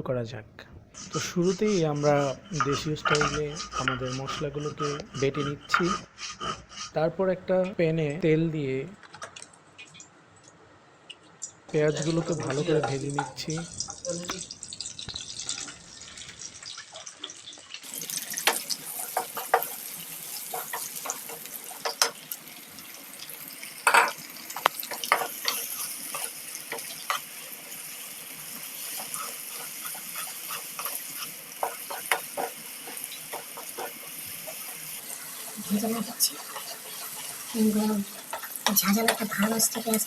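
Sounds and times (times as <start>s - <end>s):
onions sizzling in hot oil: 0.9s - 5.0s, 11.7s - 40.0s.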